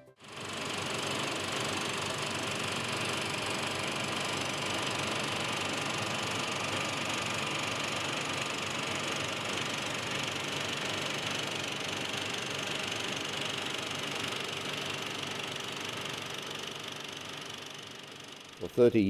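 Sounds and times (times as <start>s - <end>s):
film projector clattering: 0.2s - 18.7s.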